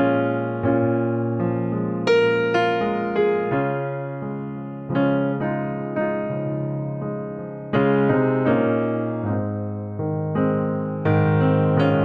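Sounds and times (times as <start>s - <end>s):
slow soft piano chords: 0.0s - 12.0s.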